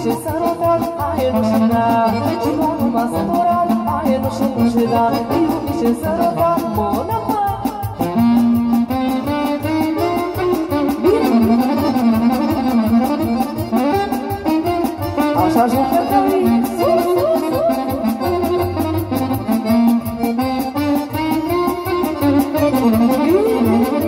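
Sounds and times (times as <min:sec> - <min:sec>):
band playing folk dance tune: 0:00.0 - 0:24.0.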